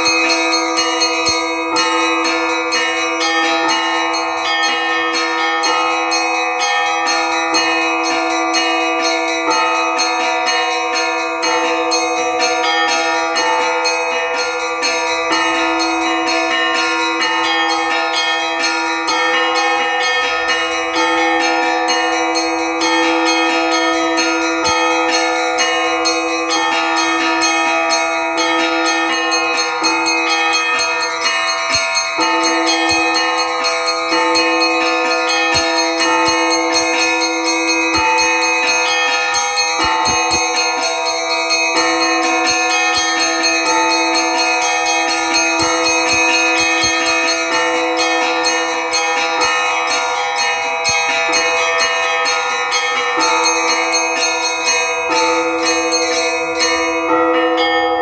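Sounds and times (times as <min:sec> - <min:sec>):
large bells ringing: 0:00.0 - 0:58.0
small high bells struck: 0:00.0 - 0:58.0.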